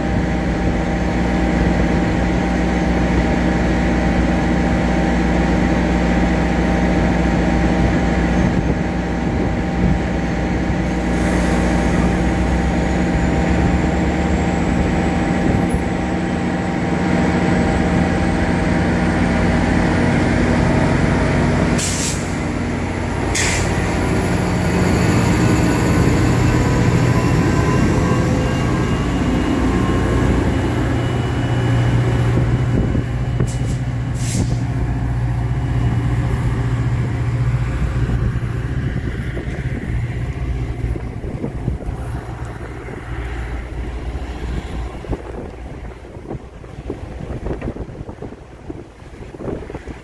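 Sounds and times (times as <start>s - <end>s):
train cars rumbling on rails: 0.0s - 50.0s
train engine drone: 0.0s - 50.0s.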